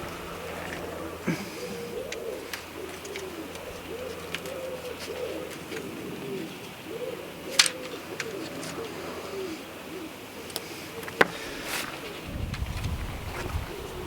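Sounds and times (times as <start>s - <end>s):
pigeon cooing: 0.0s - 14.0s.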